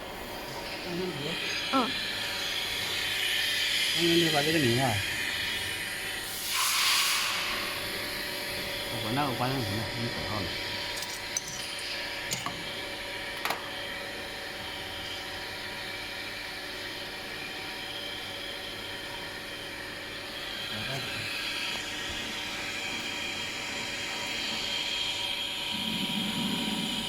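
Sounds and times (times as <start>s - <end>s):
machinery hum with high whine: 0.0s - 27.0s.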